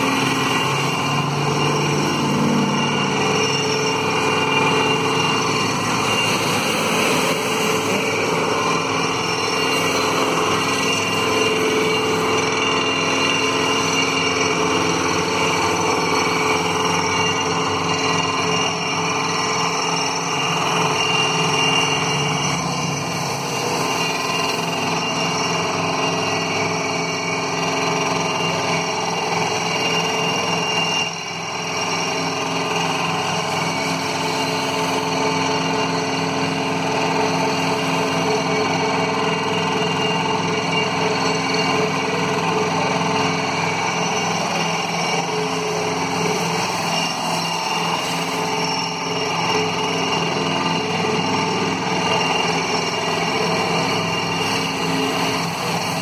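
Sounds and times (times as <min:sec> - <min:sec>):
heavy machinery drone: 0:00.0 - 0:56.0.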